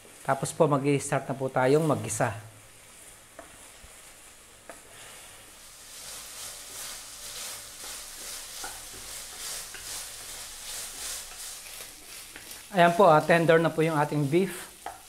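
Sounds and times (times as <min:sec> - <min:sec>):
meat sizzling in a wok: 0:00.0 - 0:15.0
wooden spatula stirring: 0:01.1 - 0:15.0.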